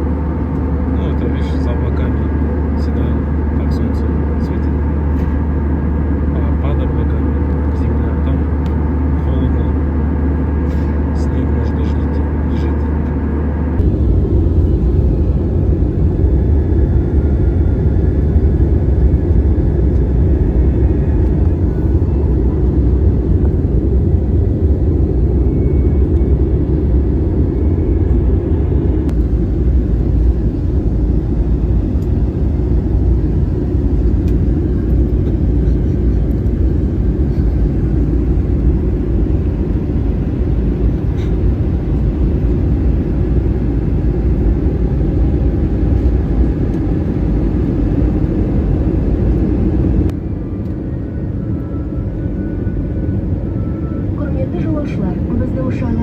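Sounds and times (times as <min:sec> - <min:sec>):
vehicle rumble from inside: 0:00.0 - 0:56.0.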